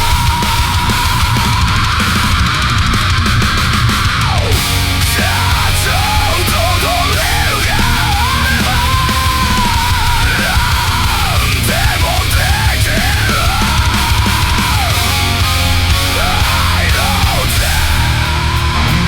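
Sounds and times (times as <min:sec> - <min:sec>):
bass: 0:00.0 - 0:19.0
fast heavy drums: 0:00.0 - 0:19.0
thrash metal music: 0:00.0 - 0:19.0.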